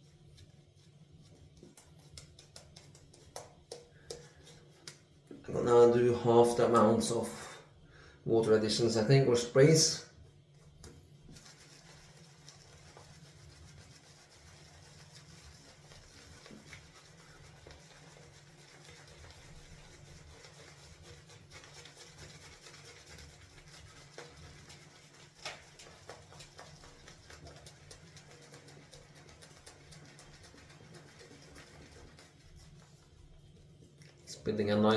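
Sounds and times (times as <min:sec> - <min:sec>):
shaving brush rubbing in soap: 0:00.0 - 0:07.6, 0:08.4 - 0:34.9.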